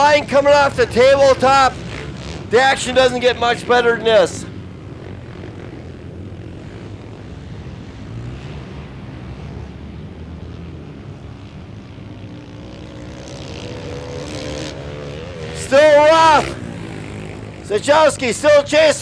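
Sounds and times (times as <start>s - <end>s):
distant race engines droning: 0.0s - 19.0s.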